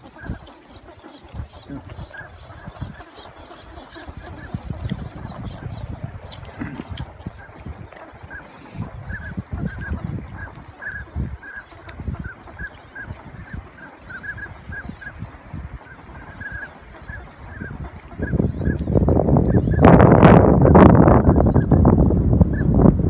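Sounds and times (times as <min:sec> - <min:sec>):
ducks calling: 0:00.0 - 0:23.0.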